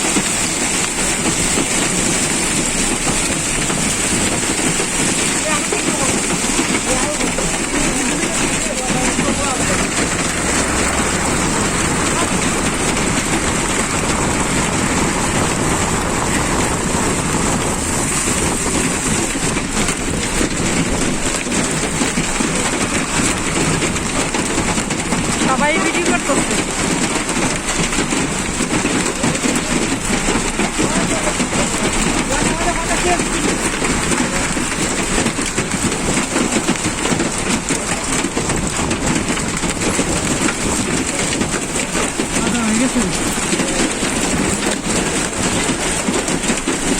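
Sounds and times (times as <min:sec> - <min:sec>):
hail and rain pelting: 0:00.0 - 0:46.9.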